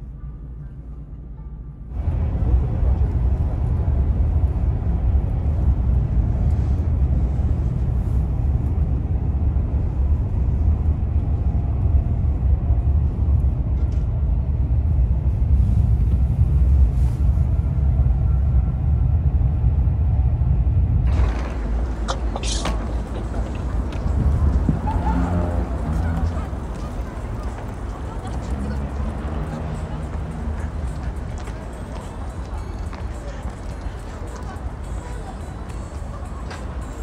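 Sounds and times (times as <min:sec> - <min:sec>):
high-speed train rumbling: 0:00.0 - 0:37.0.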